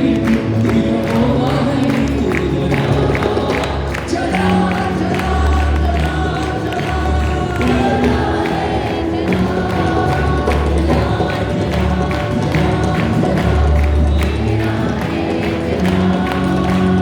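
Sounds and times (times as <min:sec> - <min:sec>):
many voices singing together: 0:00.0 - 0:17.0.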